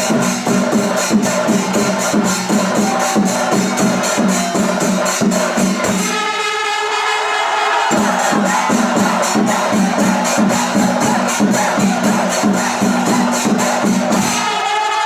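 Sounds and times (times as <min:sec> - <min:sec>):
fast percussion beat: 0:00.0 - 0:15.0.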